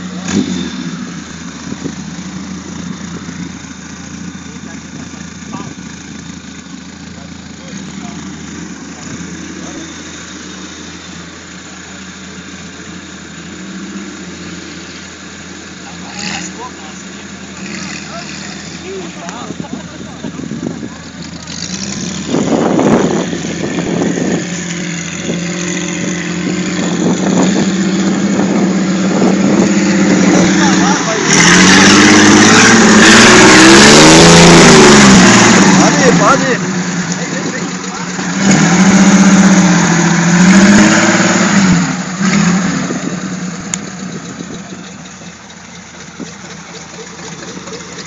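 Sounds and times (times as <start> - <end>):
car engine running: 0.0 - 48.0.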